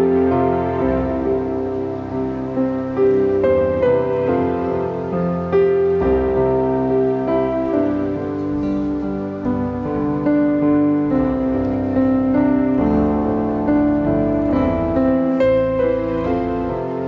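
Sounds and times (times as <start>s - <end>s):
gentle electric keyboard piano: 0.0s - 17.0s.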